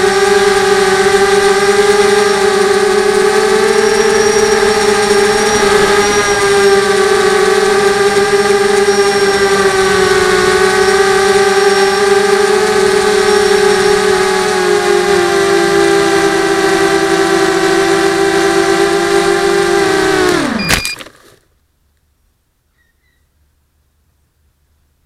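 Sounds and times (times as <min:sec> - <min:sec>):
quadcopter motors whining: 0:00.0 - 0:21.3.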